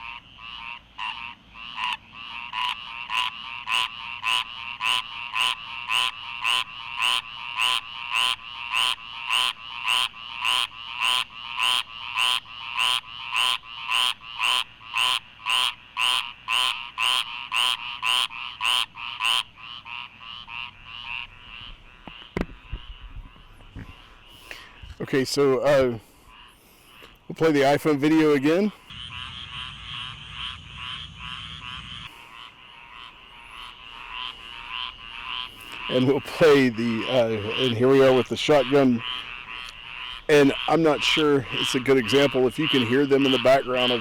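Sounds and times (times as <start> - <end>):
frog chorus: 0.0 - 44.0
repeated frog call: 0.0 - 44.0.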